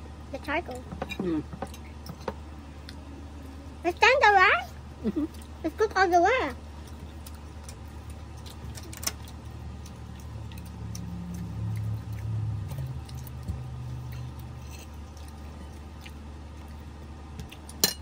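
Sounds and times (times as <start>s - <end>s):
low hum: 0.0s - 18.0s
people chewing: 0.9s - 5.7s, 6.5s - 17.9s.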